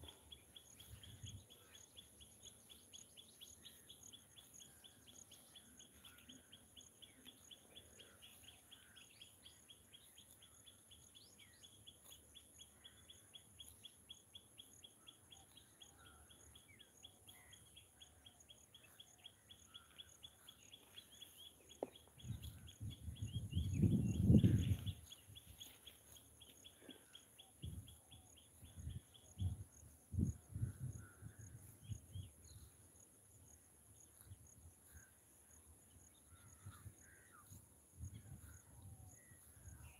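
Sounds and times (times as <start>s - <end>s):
bird calls: 0.0s - 32.8s, 34.0s - 39.9s
insects chirring: 0.0s - 39.9s.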